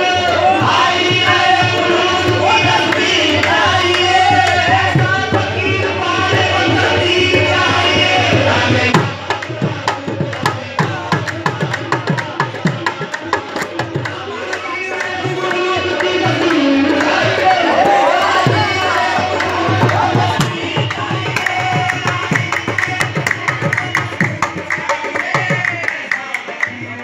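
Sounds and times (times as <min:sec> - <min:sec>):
tabla drumming: 0:00.0 - 0:27.0
voices singing: 0:00.0 - 0:27.0.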